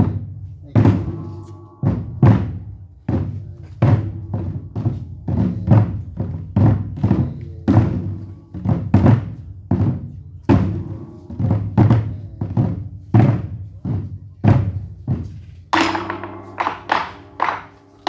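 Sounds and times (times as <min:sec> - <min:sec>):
heavy deep drum strikes: 0:00.8 - 0:18.0.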